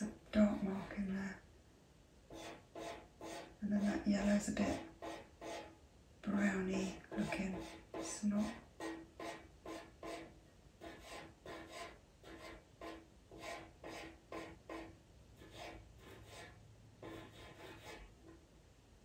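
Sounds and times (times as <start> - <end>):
pastel pencil scratching on paper: 0.0 - 1.1, 2.3 - 5.8, 6.7 - 18.1.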